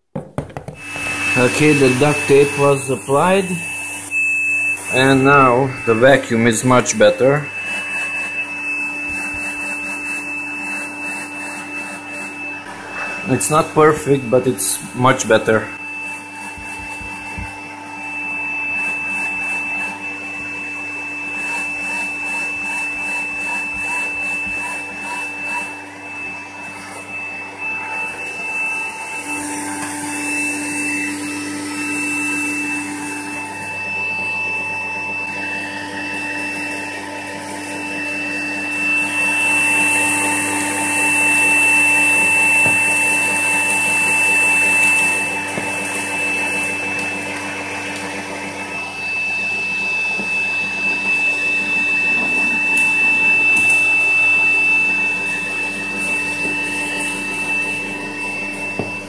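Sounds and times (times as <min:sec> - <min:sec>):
vacuum cleaner running: 0:00.4 - 0:59.0.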